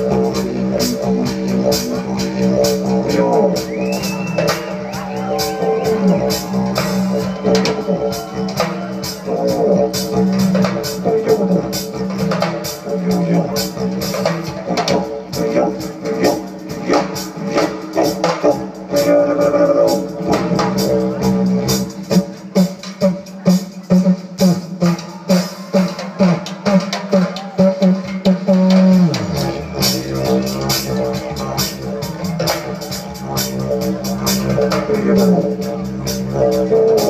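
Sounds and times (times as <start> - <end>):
drums: 0.0 - 37.0
live rock band playing: 0.0 - 37.0.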